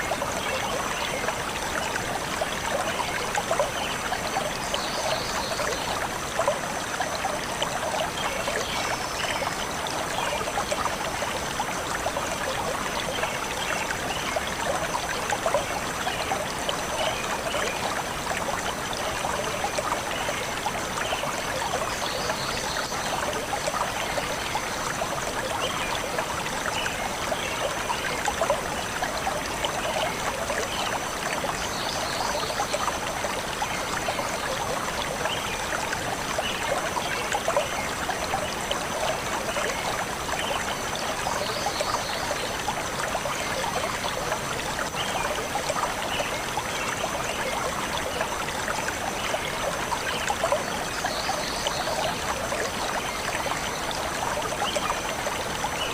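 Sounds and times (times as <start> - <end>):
stream trickling over stones: 0.0 - 55.9.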